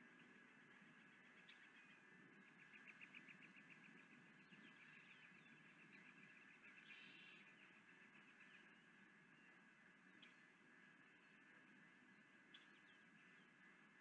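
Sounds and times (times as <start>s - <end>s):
quiet outdoor ambience: 0.0s - 14.0s.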